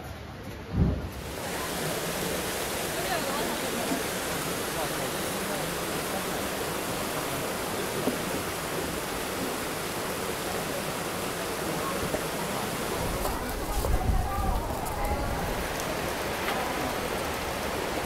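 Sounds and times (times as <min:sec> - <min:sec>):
water spilling from outlet: 0:01.1 - 0:18.0
river rushing over rocks: 0:01.2 - 0:18.0.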